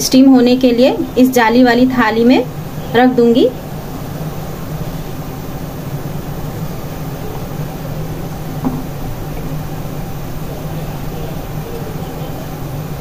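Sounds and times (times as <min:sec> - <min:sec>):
machinery hum with rushing noise: 0:00.0 - 0:13.0.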